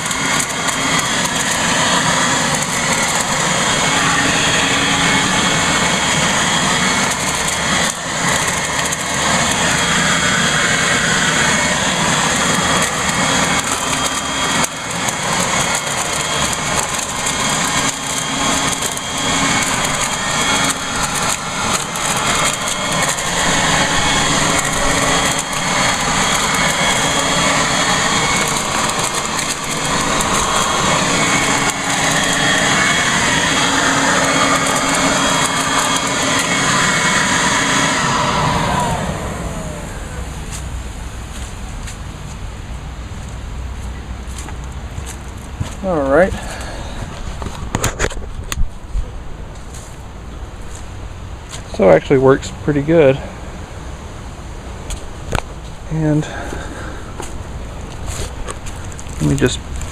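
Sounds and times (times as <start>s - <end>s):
leaves rattling in vacuum: 0.0s - 42.5s, 44.2s - 59.9s
leaf blower vacuum running: 0.0s - 59.9s.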